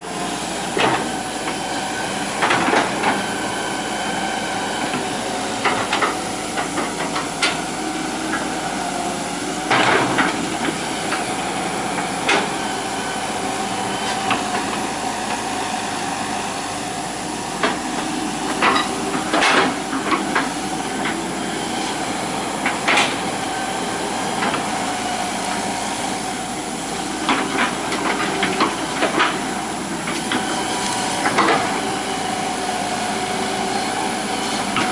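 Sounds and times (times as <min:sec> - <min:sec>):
excavator engine and hydraulic whine: 0:00.0 - 0:34.9.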